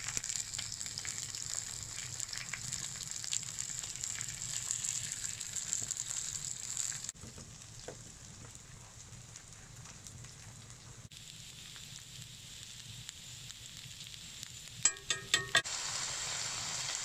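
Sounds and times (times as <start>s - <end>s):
onions sizzling in a frying pan: 0.0s - 17.0s.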